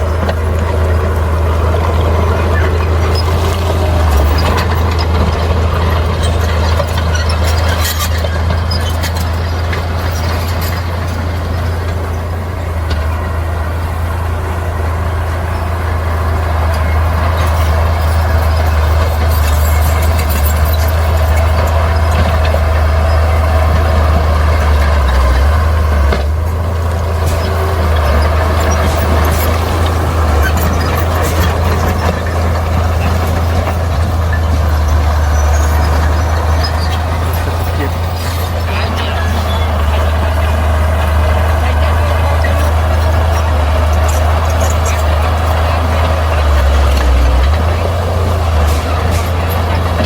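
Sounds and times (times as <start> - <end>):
diesel engine drone: 0.0 - 50.0
machinery clatter: 0.0 - 50.0.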